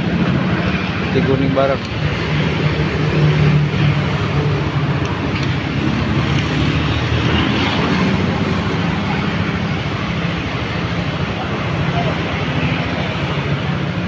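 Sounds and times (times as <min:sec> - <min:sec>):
motorcycle passing: 0:02.0 - 0:14.0.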